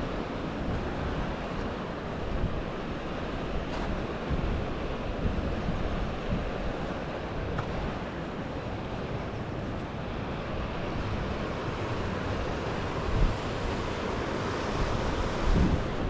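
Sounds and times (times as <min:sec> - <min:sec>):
waterfall rushing: 0:00.0 - 0:16.0
wind buffeting the microphone: 0:00.0 - 0:16.0.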